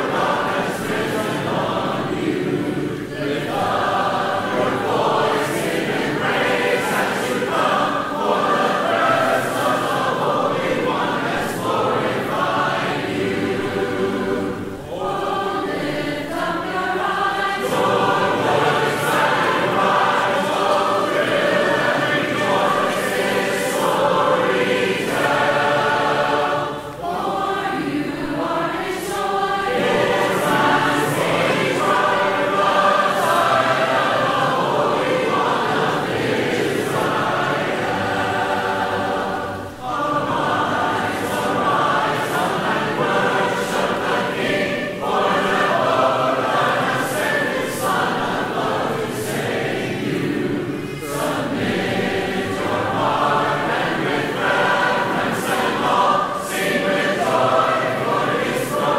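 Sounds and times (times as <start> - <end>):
choir singing a hymn: 0.0 - 58.9.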